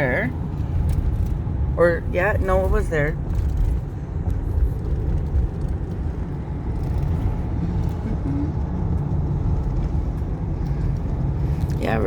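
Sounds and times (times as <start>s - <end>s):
van engine and tyre noise: 0.0s - 12.0s.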